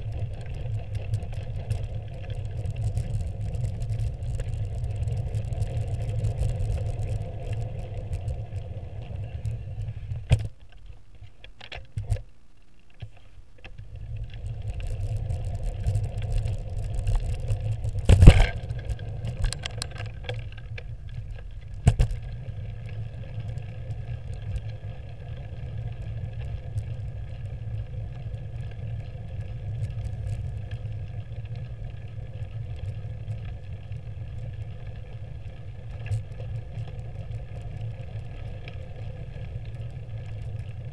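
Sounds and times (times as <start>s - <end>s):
wind and road noise: 0.0s - 10.5s, 13.7s - 40.9s.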